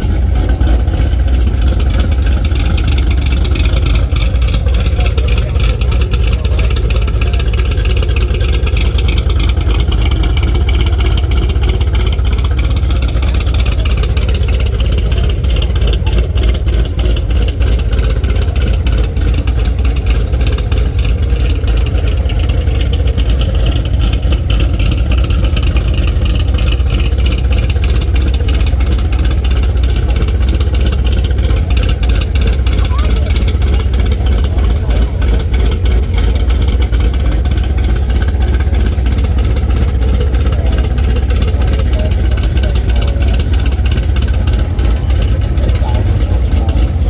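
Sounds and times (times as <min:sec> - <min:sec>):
car engine idling with loping exhaust: 0:00.0 - 0:47.0.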